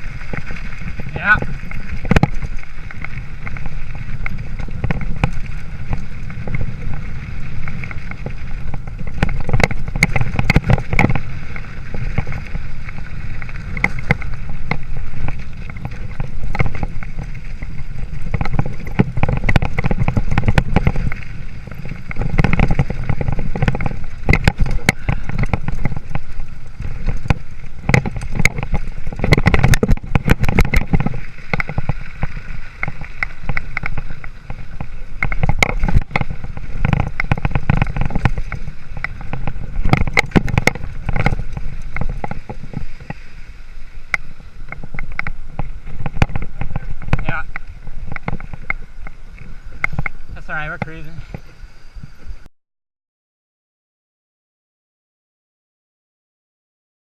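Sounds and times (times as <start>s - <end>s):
bike rattling over rocky ground: 0.0s - 52.5s
wind rumbling on microphone: 0.0s - 52.5s.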